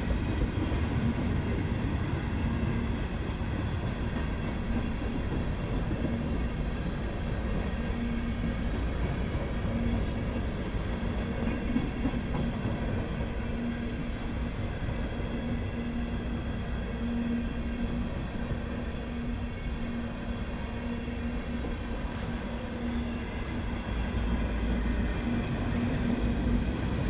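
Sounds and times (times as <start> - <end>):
freight train wheels rumbling on rails: 0.0 - 27.0.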